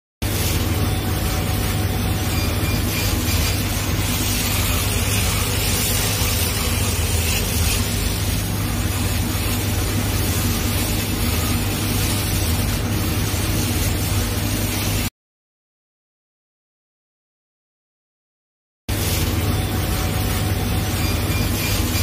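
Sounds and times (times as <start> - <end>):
laser cutter hissing and humming: 0.2 - 15.1, 18.9 - 22.0.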